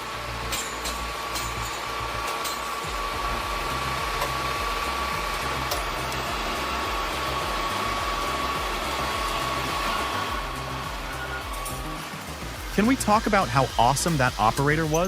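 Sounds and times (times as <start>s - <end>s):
high machine whine: 0.0s - 15.0s
low shifting rumble: 2.9s - 15.0s.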